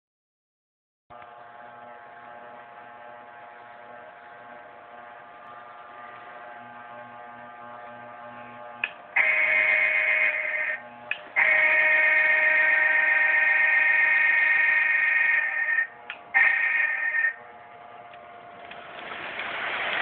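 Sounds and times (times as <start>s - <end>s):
loud steady-pitched tone: 1.1s - 18.6s
toy train electric hum: 1.1s - 20.0s.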